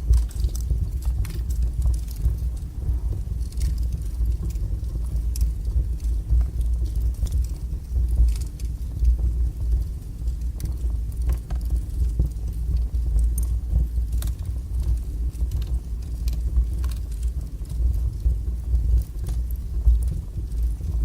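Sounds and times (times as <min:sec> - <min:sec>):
fire rumbling: 0:00.0 - 0:21.0
logs crackling and popping: 0:00.0 - 0:21.0.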